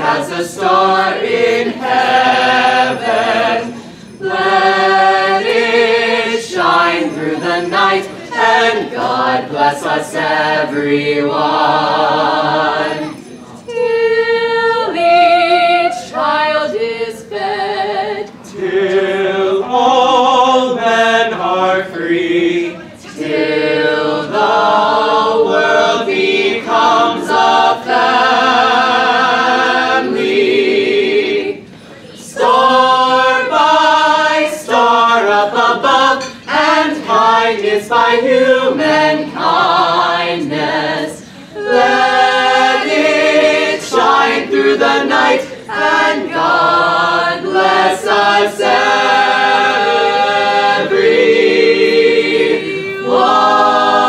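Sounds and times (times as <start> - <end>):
vocal group singing in harmony: 0.0 - 54.0.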